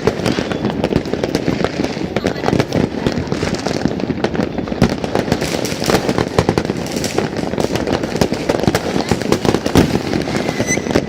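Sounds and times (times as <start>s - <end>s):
distant explosions rumbling: 0.0s - 11.0s
fireworks crackling and banging: 0.0s - 11.0s.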